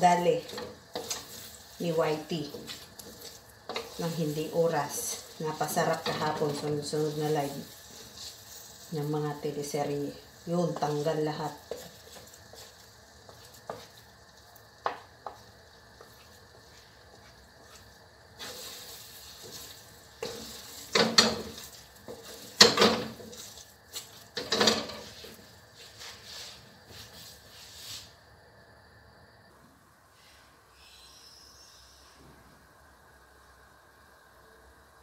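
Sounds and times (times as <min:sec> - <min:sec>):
spatulas scraping in a wok: 0:00.0 - 0:28.1.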